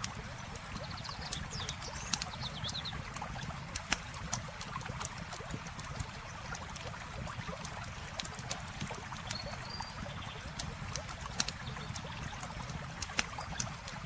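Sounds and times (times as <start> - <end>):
campfire crackling and popping: 0.0 - 14.0
flowing water: 0.0 - 14.0.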